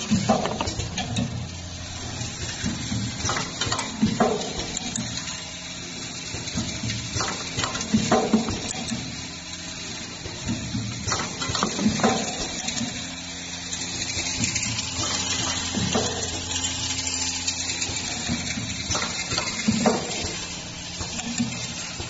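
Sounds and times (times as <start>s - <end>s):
sharp clicks and knocks: 0.0s - 1.5s, 2.2s - 5.4s, 6.2s - 9.2s, 10.2s - 22.0s
motor hum: 0.0s - 22.0s.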